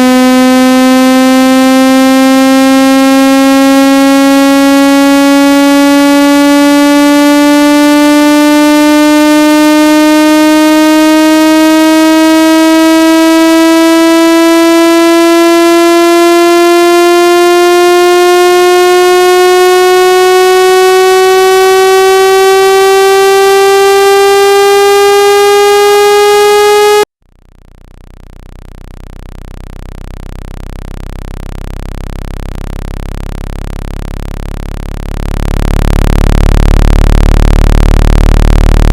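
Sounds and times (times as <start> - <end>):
deep low hum: 0.0 - 38.9
synthesized tone rising in pitch: 0.0 - 38.9.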